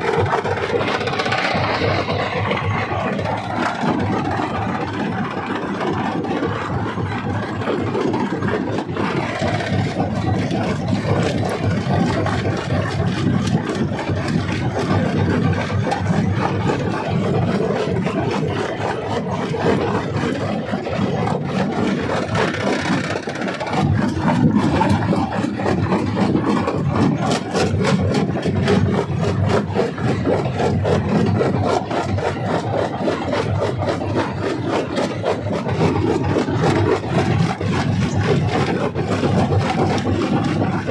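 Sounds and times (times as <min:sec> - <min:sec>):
stone crusher grinding rumble: 0:00.0 - 0:40.9.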